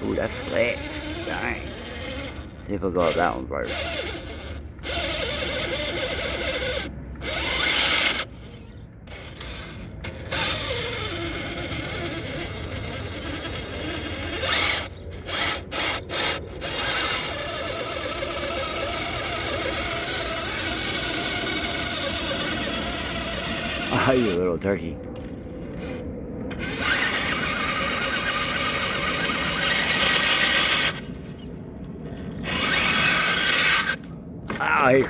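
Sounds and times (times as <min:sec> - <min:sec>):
rc truck motor whining: 0:00.0 - 0:35.0.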